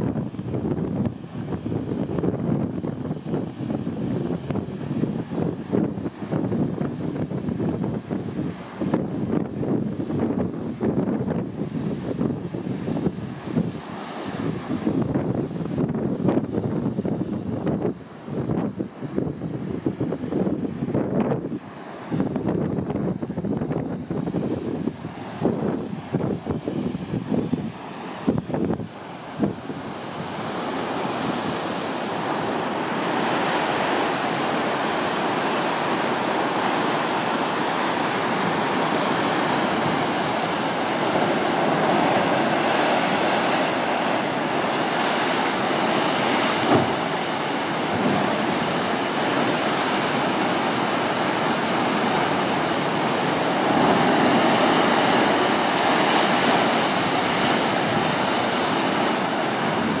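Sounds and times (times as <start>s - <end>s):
ocean surf churning through rocks: 0.0s - 60.0s.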